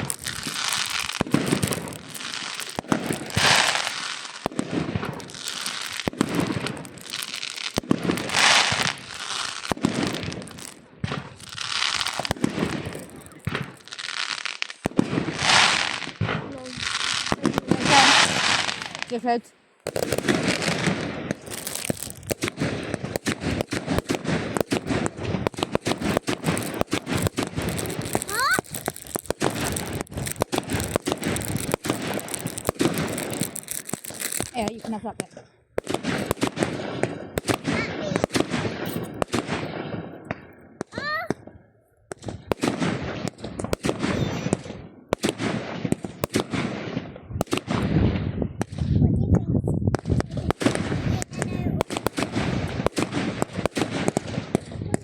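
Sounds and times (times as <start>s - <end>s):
fireworks crackling and popping: 0.0s - 55.0s.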